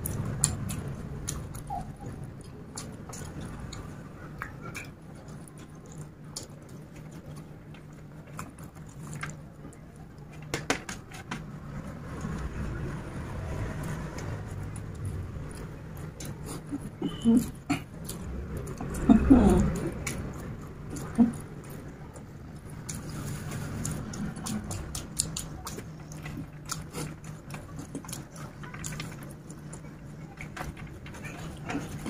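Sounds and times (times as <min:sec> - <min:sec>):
person chewing with wet mouth clicks: 0:00.0 - 0:09.8, 0:13.8 - 0:32.0.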